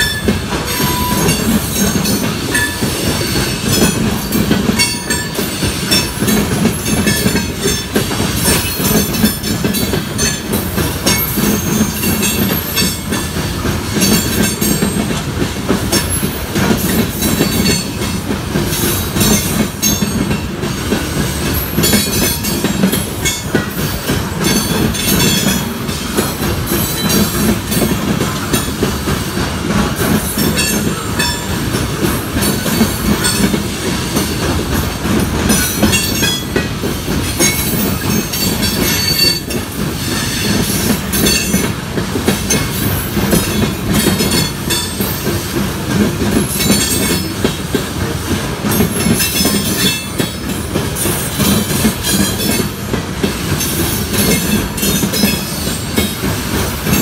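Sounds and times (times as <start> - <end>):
steel wheels rumbling on rail: 0.0 - 57.0
wheels clicking over rail joints: 0.0 - 57.0.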